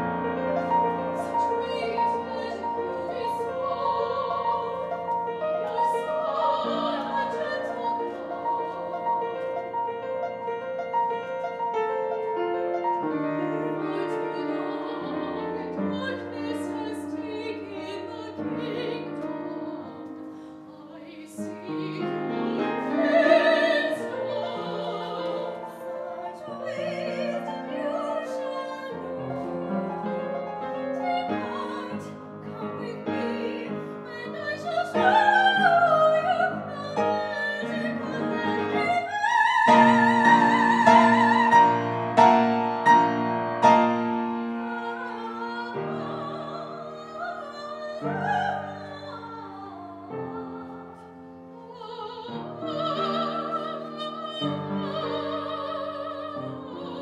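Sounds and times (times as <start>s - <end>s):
woman singing opera: 0.0s - 9.9s, 12.0s - 42.4s, 44.3s - 57.0s
piano accompaniment: 0.0s - 57.0s.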